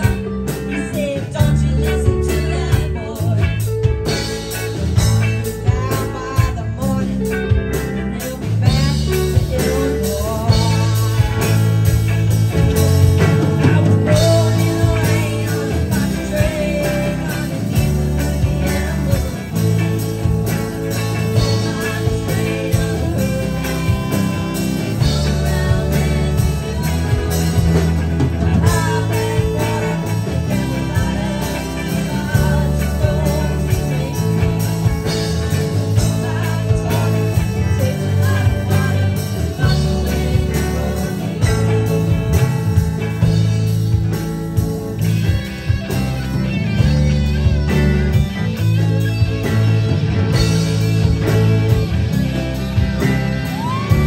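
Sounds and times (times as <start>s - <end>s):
bass: 0.0s - 54.0s
drums: 0.0s - 54.0s
electric guitars: 0.0s - 54.0s.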